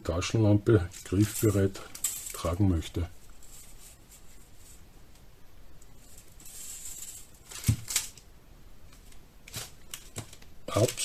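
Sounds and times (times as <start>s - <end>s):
soft rustle of small gear: 0.7s - 11.0s.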